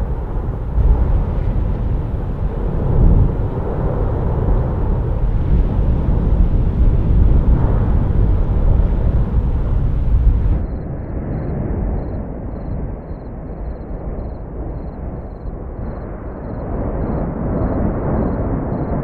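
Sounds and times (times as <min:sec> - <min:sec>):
volcano deep rumble: 0:00.0 - 0:19.0.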